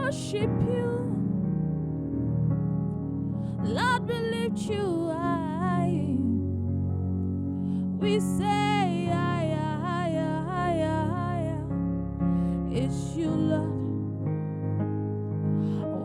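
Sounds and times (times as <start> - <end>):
keyboard sustained chords: 0.0 - 16.0.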